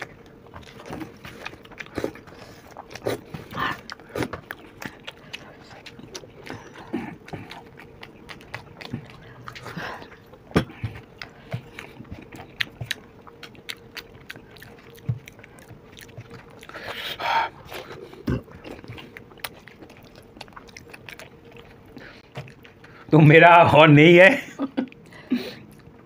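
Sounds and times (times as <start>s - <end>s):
wet chewing: 0.0s - 23.1s.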